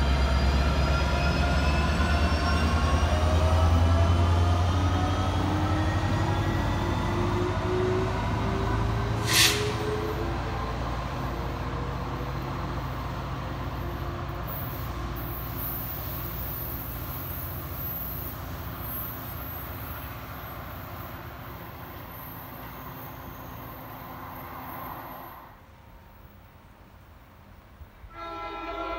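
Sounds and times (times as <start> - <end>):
train wheel rumble: 0.0 - 25.5
locomotive engine drone: 0.0 - 26.4.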